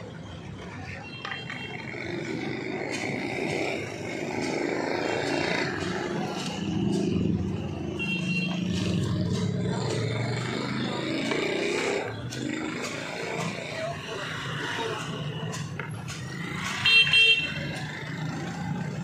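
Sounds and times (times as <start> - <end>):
street traffic noise: 0.0 - 19.0
motor vehicle engine running: 1.9 - 19.0.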